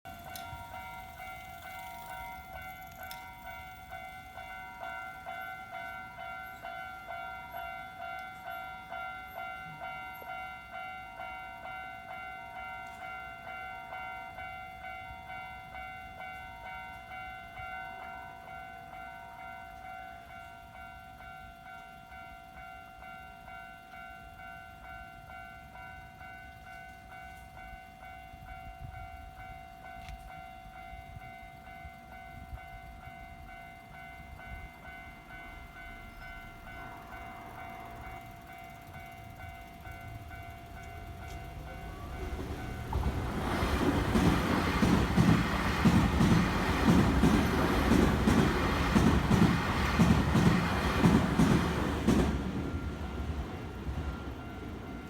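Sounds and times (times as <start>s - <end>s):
train rumble: 0.1s - 21.2s, 21.9s - 55.0s.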